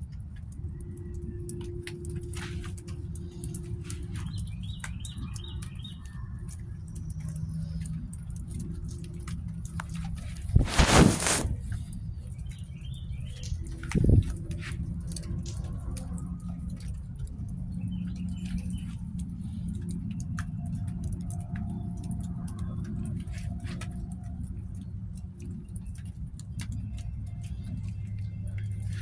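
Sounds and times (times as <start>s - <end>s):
light ticks and taps: 0.0s - 10.6s, 11.7s - 29.0s.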